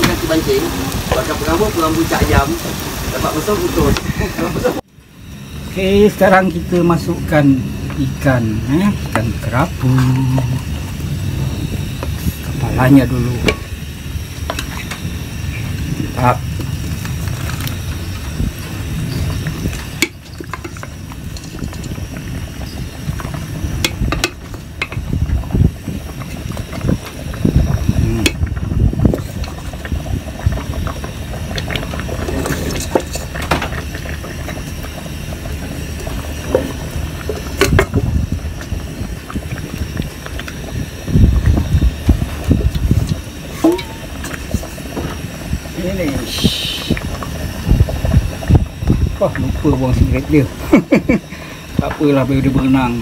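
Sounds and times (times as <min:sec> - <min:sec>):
stew bubbling: 0:00.0 - 0:53.0.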